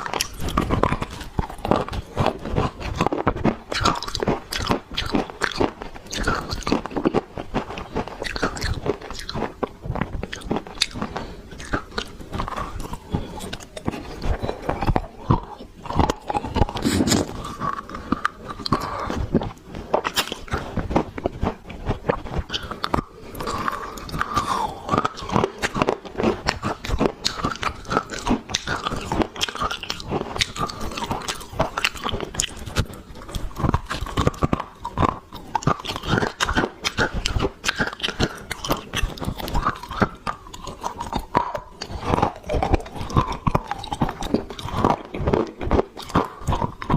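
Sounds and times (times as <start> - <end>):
dry clay crunching while chewed: 0.0 - 46.9.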